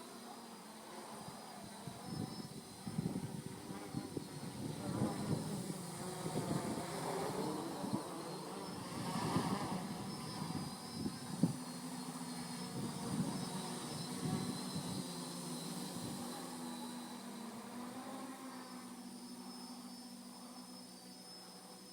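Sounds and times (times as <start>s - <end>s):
drone motors and propellers whining: 0.0s - 21.9s.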